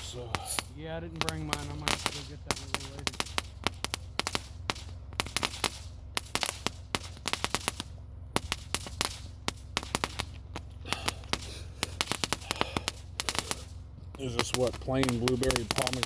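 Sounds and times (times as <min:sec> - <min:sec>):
firecrackers popping: 0:00.0 - 0:16.0
steady low hum: 0:00.0 - 0:16.0.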